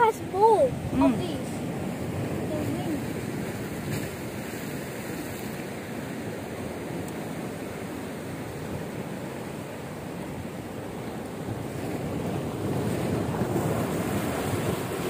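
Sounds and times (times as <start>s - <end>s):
waves breaking on rocks: 0.0s - 15.0s.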